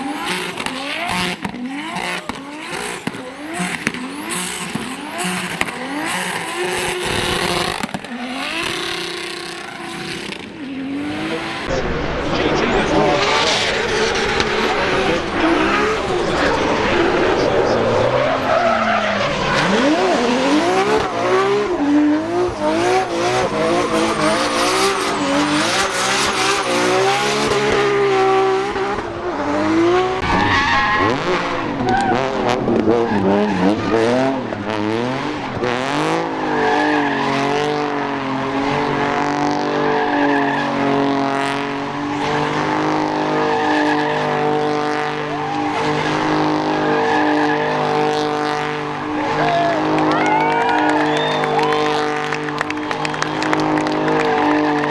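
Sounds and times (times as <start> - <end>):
car engine revving hard: 0.0 - 54.9.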